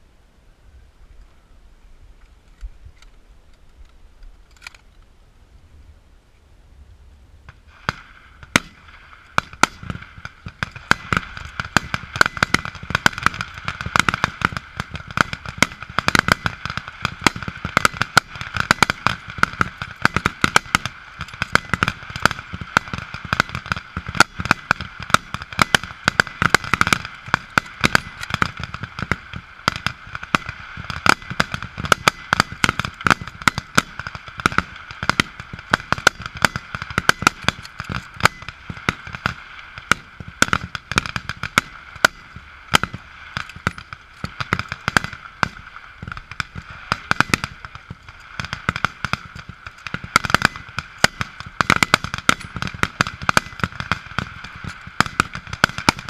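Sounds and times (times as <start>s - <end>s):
rifles firing: 7.8s - 56.0s.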